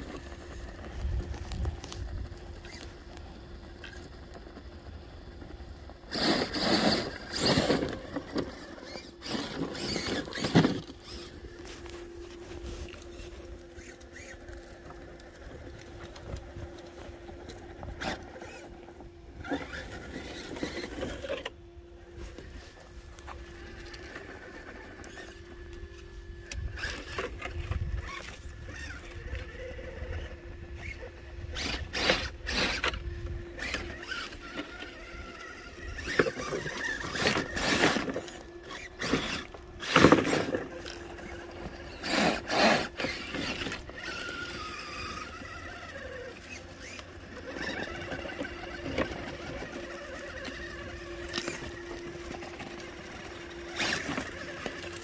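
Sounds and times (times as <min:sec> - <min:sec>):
electric motor whining: 0:00.0 - 0:55.0
tires scrabbling on dirt: 0:00.0 - 0:55.0.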